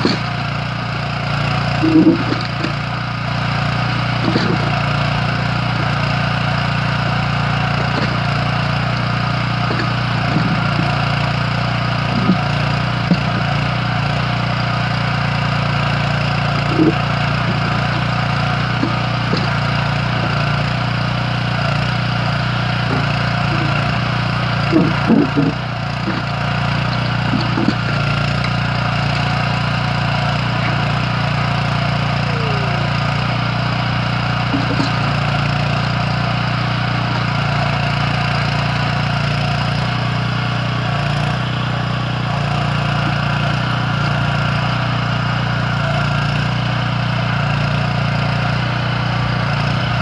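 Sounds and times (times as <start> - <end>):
petrol engine running: 0.0 - 50.0.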